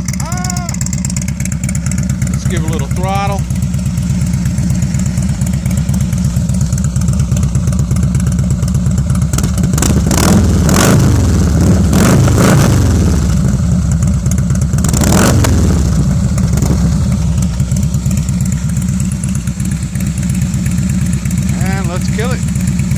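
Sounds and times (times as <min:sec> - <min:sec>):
motorcycle engine idling and revving: 0:00.0 - 0:22.9.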